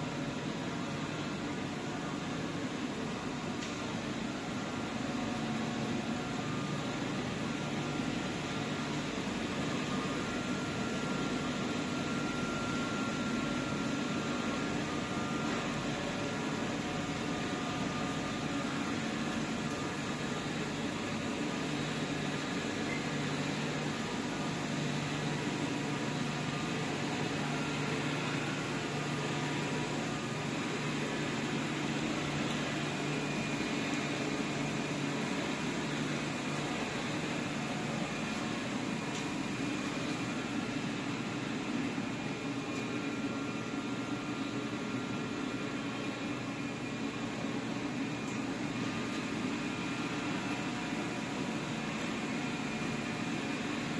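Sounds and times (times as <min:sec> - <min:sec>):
conveyor motors whirring: 0:00.0 - 0:53.9.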